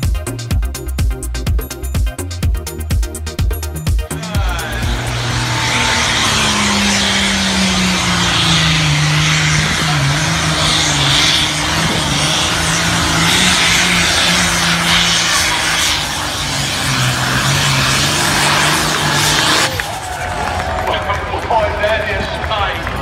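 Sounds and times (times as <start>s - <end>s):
tractor engine running hard: 0.0s - 23.0s.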